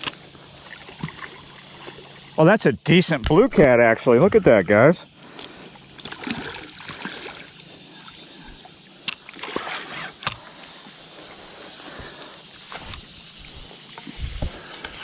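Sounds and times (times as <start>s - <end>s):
wind and water hiss: 0.0s - 15.0s.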